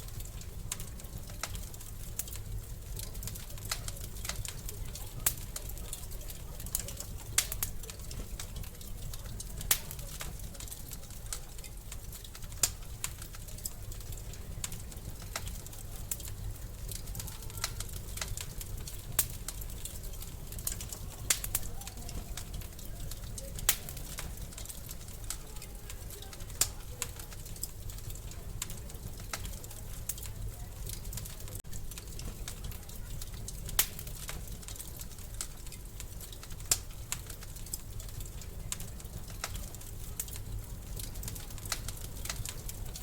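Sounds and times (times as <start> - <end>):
sharp pops from fire: 0.0 - 43.0
wood fire crackling: 0.0 - 43.0.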